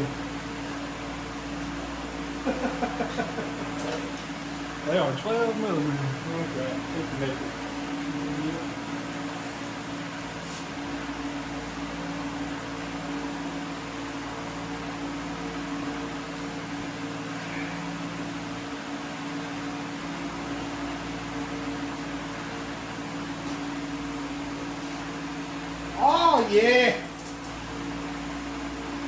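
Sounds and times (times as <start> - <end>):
electric motor hum: 0.0 - 29.0.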